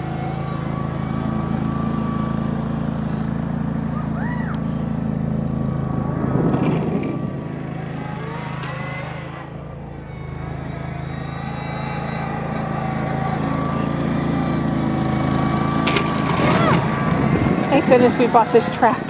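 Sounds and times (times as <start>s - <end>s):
small tractor engine running: 0.0s - 19.0s.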